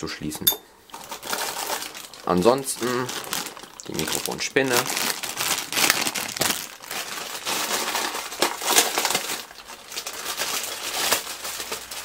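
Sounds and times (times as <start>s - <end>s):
plastic bag crinkling: 0.9s - 12.0s.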